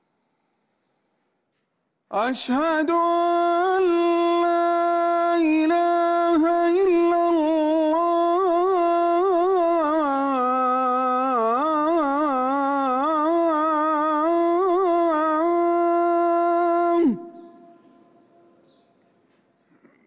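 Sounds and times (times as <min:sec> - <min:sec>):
man chanting call to prayer: 0:02.1 - 0:18.6.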